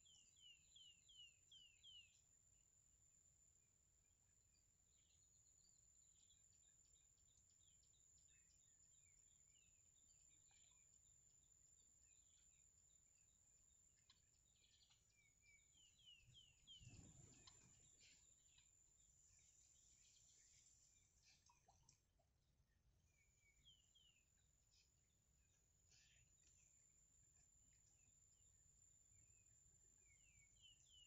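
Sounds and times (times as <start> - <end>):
faint high bird chirps: 0.0 - 2.3, 4.6 - 22.0, 22.7 - 28.5, 29.1 - 31.0.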